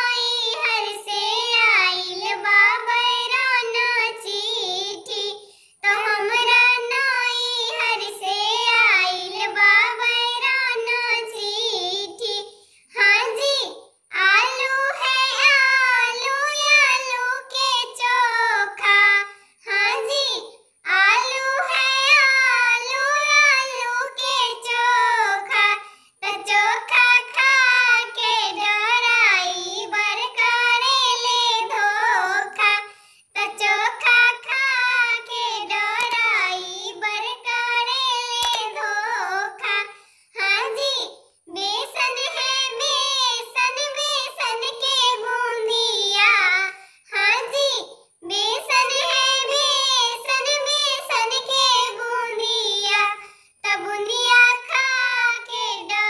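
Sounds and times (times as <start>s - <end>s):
high-pitched voice singing: 0.0s - 56.0s.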